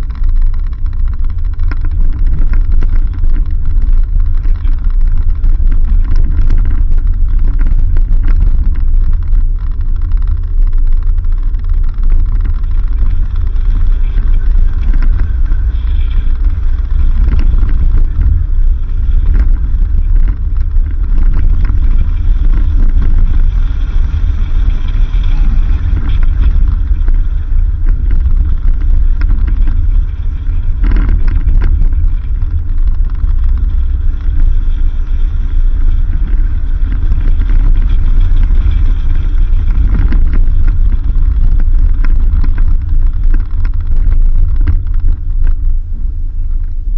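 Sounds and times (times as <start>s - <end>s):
vehicle engine and tyres rumbling: 0.0s - 46.9s.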